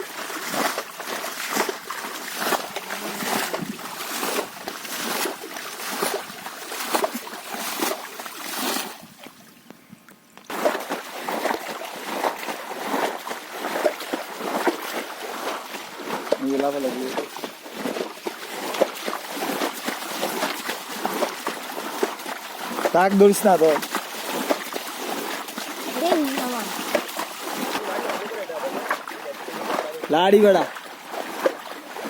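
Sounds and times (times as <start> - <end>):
shallow water splashing: 0.0 - 9.6, 10.5 - 32.0.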